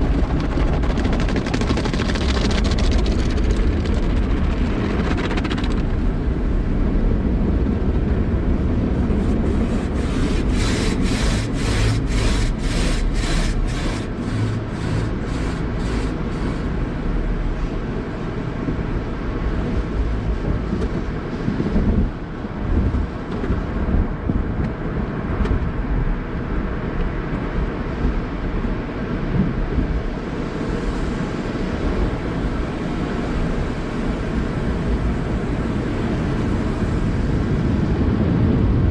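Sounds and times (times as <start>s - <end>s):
car wash machinery rumble: 0.0s - 38.9s.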